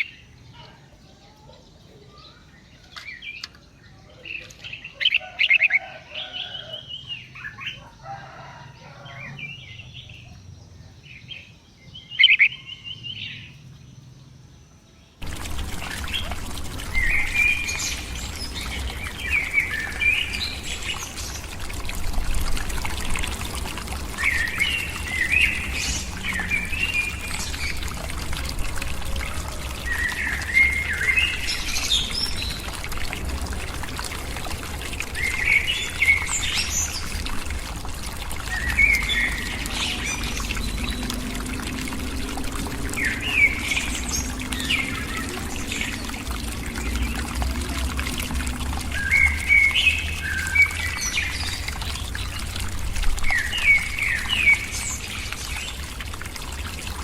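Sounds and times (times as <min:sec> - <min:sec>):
small birds chirping: 0:00.0 - 0:05.3, 0:09.6 - 0:57.0.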